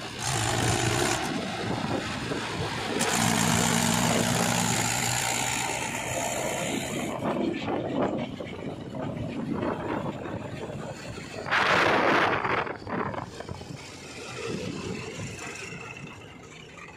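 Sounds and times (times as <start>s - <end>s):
road and wind noise: 0.0s - 16.9s
tractor diesel engine running: 0.0s - 16.9s.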